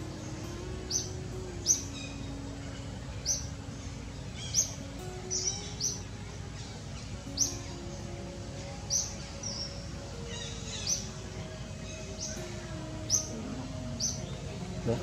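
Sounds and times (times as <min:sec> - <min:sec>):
bird chirping: 0:00.0 - 0:15.0
steady background hiss: 0:00.0 - 0:15.0.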